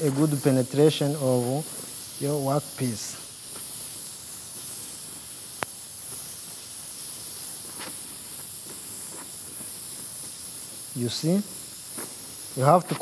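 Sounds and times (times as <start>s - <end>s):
welding torch flame hissing: 0.0s - 13.0s.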